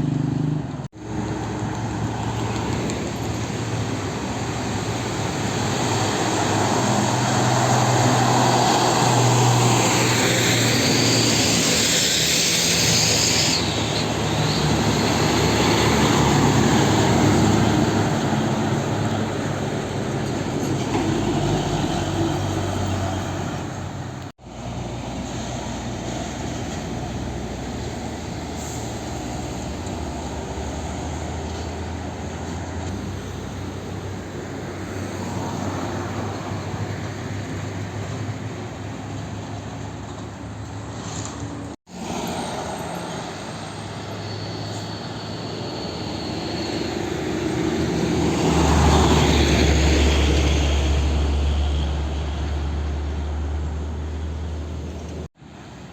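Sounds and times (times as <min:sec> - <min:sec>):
road traffic drone and tyre noise: 0:00.0 - 0:55.9
truck passing close: 0:00.0 - 0:55.9.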